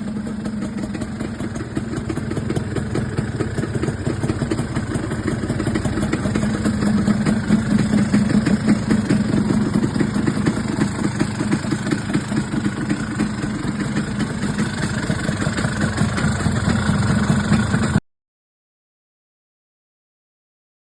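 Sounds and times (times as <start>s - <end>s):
scooter engine idling: 0.0s - 18.0s.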